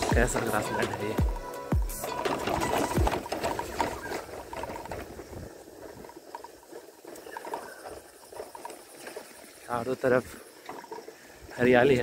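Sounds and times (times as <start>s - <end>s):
rustling through wet grass: 2.0s - 11.6s.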